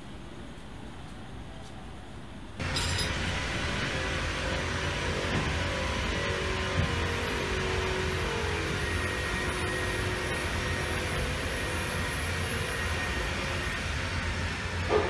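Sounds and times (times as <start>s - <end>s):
machinery drone: 2.6s - 15.0s.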